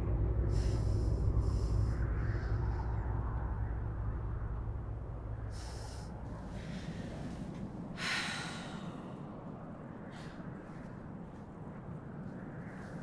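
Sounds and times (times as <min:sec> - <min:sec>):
low rumbling drone: 0:00.0 - 0:10.5.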